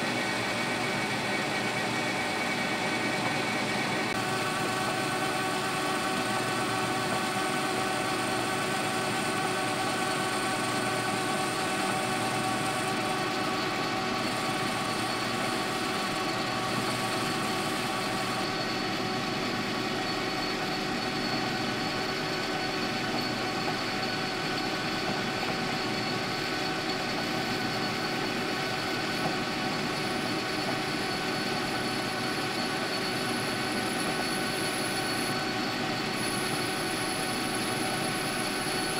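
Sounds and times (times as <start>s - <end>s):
metal lathe whining: 0.0s - 38.9s.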